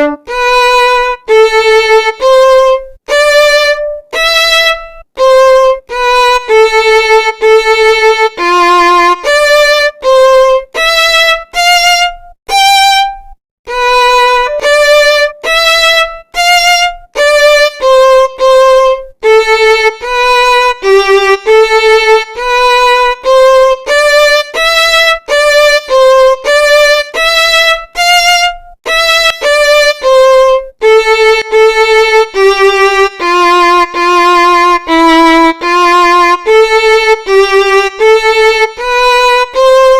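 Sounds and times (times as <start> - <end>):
violin melody: 0.0 - 39.9.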